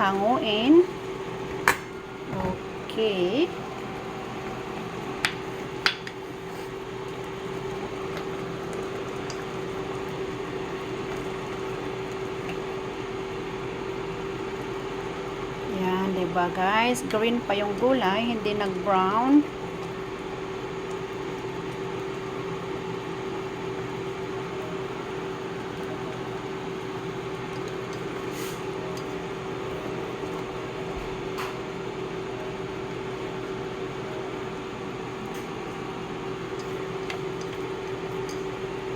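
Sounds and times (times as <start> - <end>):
electric appliance hum: 0.0 - 38.9.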